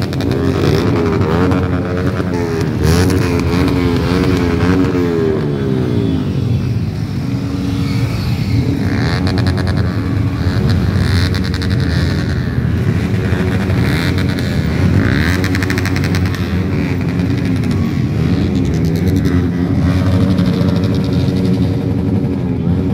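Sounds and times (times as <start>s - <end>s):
motorcycle engines revving: 0.0s - 22.9s.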